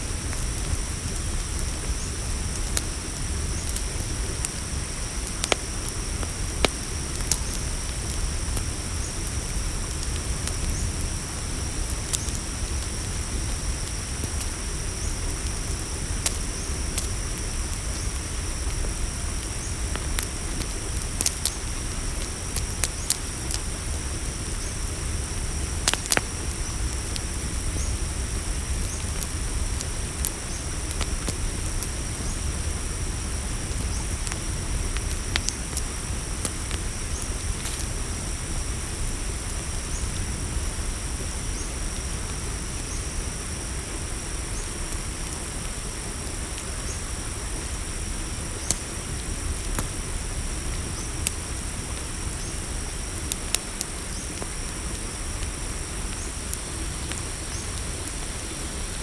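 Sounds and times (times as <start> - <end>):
campfire crackling: 0.0 - 59.0
crickets trilling: 0.0 - 59.0
sharp fire pops: 0.1 - 40.8, 48.6 - 59.0.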